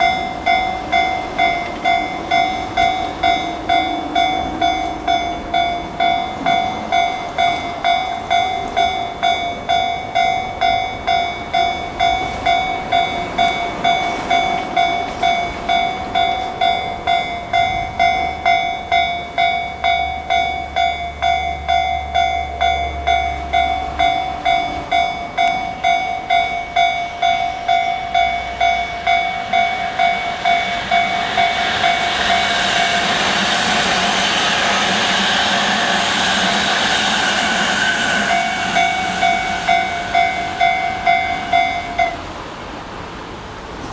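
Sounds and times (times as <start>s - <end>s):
passing train running noise: 0.0s - 43.9s.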